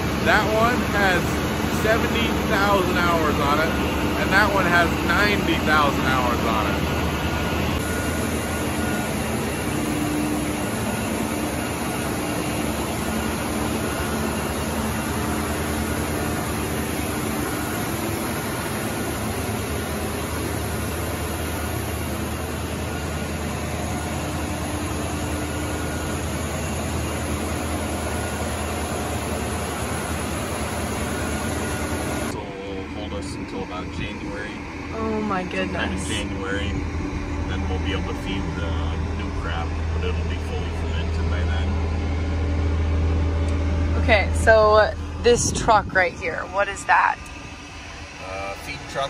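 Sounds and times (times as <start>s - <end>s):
gas engine generator droning: 0.0s - 49.0s.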